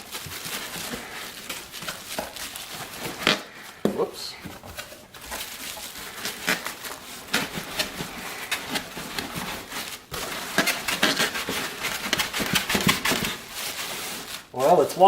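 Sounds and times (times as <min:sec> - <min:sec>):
styrofoam squeaking against cardboard: 0:00.0 - 0:15.0.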